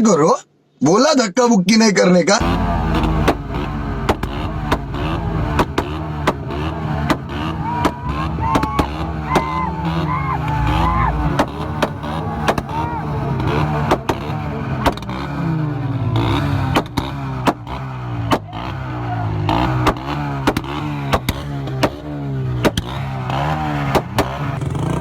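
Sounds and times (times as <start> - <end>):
car engine revving: 2.4 - 25.0
sharp exhaust pops: 2.4 - 25.0.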